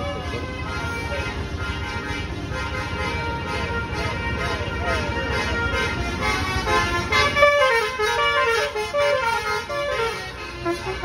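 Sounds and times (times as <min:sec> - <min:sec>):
bus engine noise: 0:00.0 - 0:11.0
bus horn playing a melody: 0:00.0 - 0:11.0.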